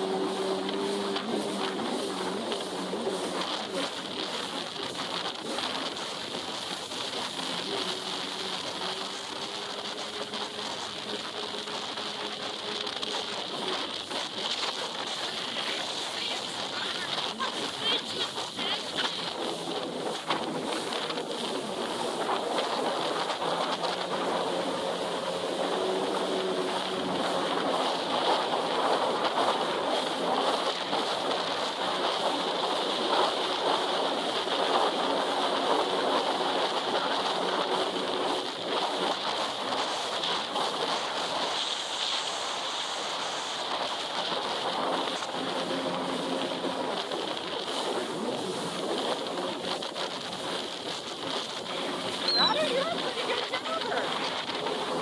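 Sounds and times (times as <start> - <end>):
jet ski engine drone: 0.0 - 55.0
rushing water: 0.0 - 55.0
wind on microphone: 0.0 - 55.0.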